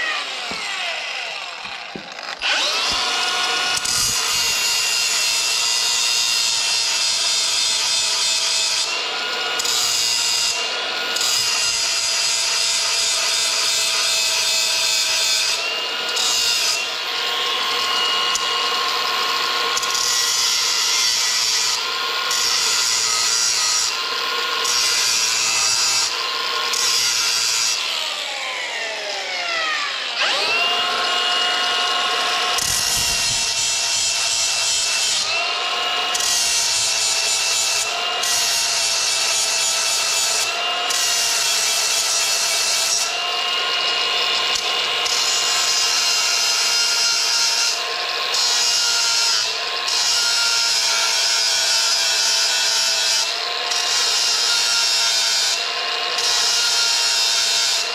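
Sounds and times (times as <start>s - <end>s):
angle grinder grinding metal: 0.0s - 57.9s.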